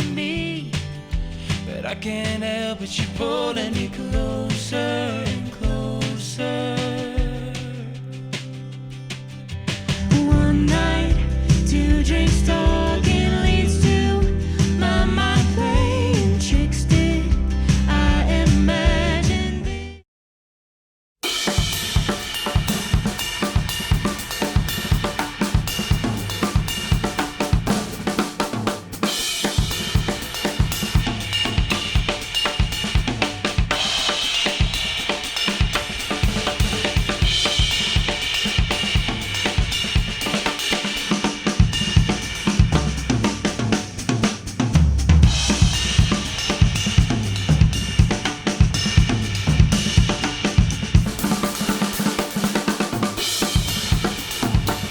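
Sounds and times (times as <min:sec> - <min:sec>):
drum kit steady beat: 0:00.0 - 0:19.3, 0:21.2 - 0:54.9.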